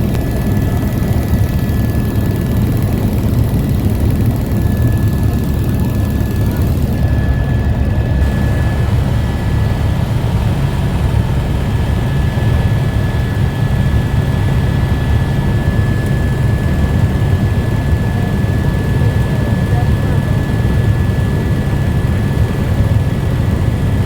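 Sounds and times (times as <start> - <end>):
helicopter drone: 0.0 - 24.0.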